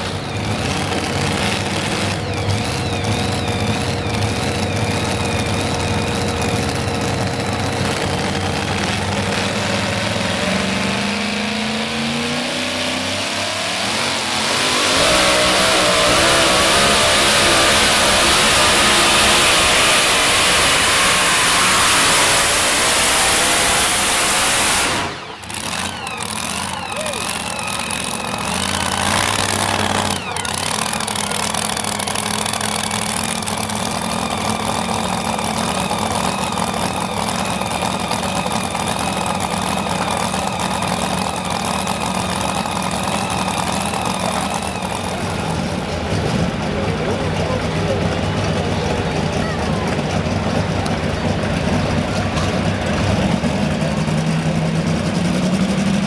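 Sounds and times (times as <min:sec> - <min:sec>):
supercharged truck engine revving: 0:00.0 - 0:56.0.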